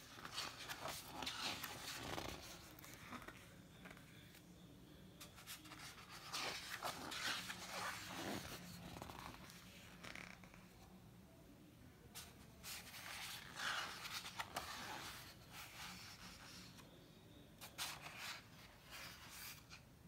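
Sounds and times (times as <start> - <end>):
paper pages rustling: 0.0 - 4.0, 5.3 - 10.5, 12.2 - 16.8, 17.6 - 19.8.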